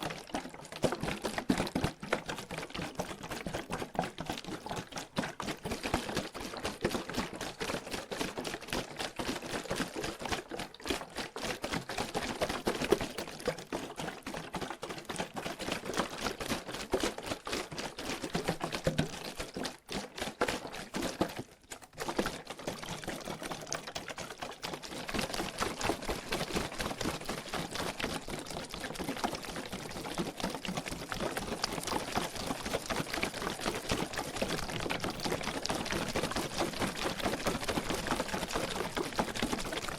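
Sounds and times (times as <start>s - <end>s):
water sloshing in plastic bottle: 0.0s - 39.9s.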